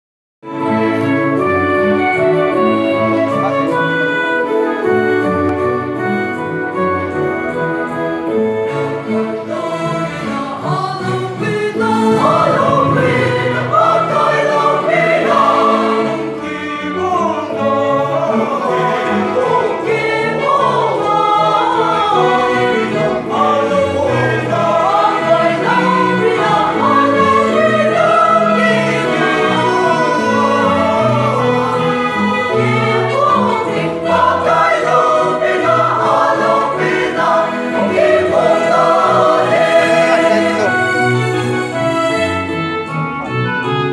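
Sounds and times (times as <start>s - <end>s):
instrumental accompaniment: 0.4s - 43.9s
choir singing: 0.5s - 43.0s.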